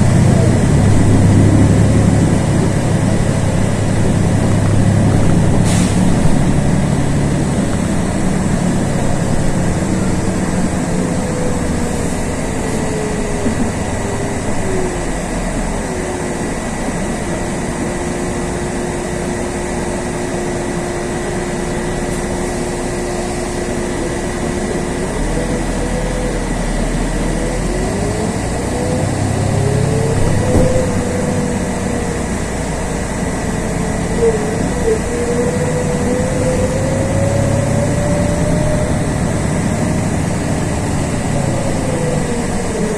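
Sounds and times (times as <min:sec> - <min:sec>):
bus engine hum: 0:00.0 - 0:42.9
drivetrain whine: 0:00.0 - 0:42.9.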